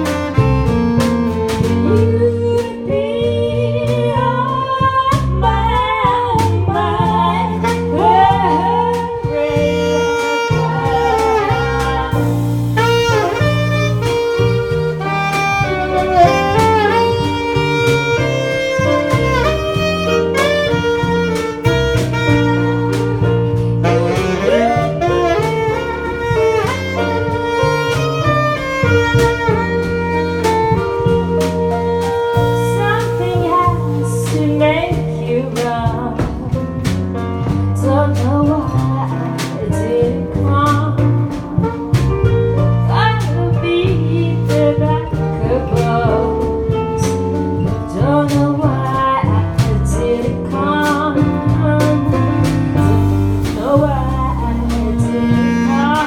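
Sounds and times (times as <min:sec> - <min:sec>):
bass line: 0:00.0 - 0:56.0
jazz melody line: 0:00.0 - 0:56.0.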